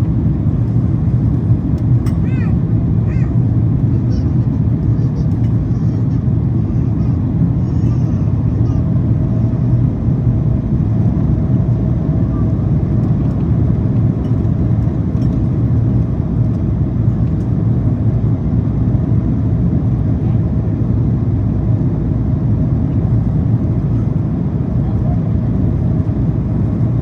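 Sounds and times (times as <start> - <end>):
airliner cabin engine roar: 0.0 - 27.0.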